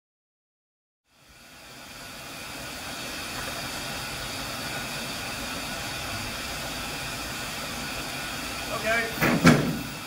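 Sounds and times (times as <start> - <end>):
steam hissing from locomotive: 1.1 - 10.0.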